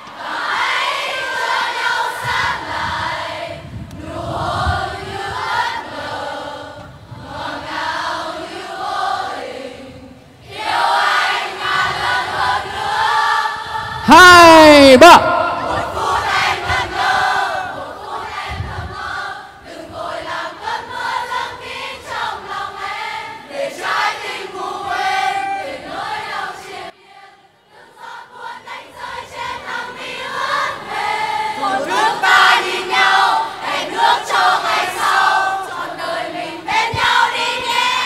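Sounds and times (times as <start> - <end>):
crowd singing a pop ballad: 0.0 - 14.1, 15.1 - 38.0.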